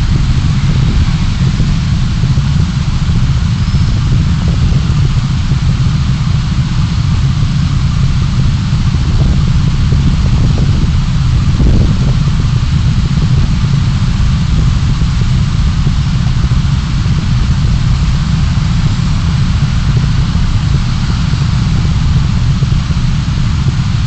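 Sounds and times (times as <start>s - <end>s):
car engine rumble inside cabin: 0.0s - 24.0s.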